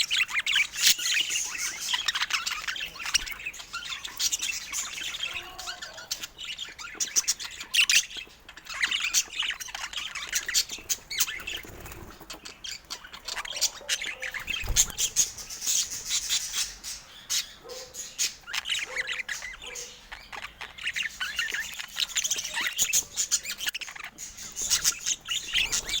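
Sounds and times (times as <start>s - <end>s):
budgerigars chirping and squawking: 0.0s - 26.0s.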